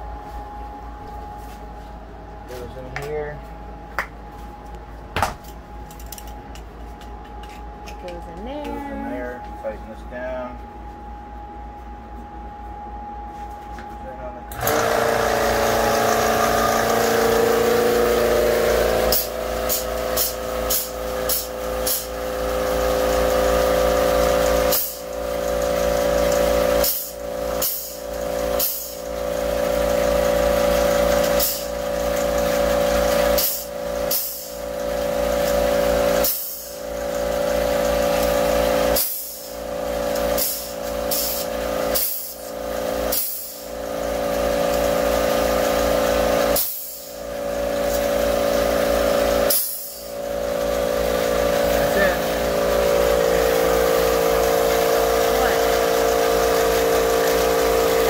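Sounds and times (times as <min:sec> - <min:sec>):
air compressor humming: 0:00.0 - 0:58.0.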